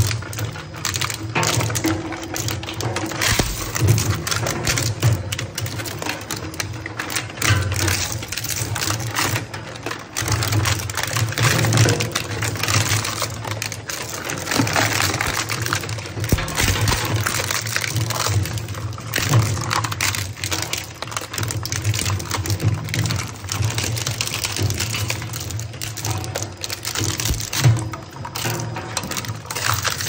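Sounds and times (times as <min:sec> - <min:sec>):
scrap crunching and clattering: 0:00.0 - 0:30.0.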